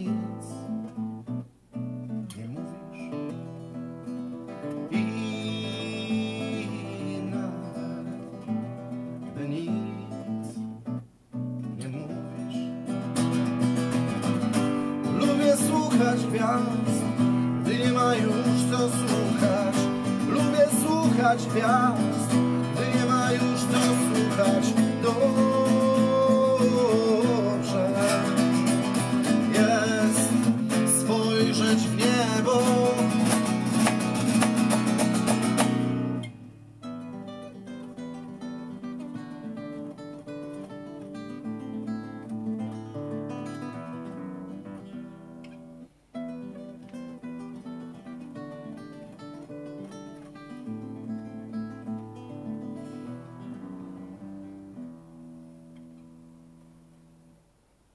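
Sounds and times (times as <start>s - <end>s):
acoustic guitar playing: 0.0s - 57.9s.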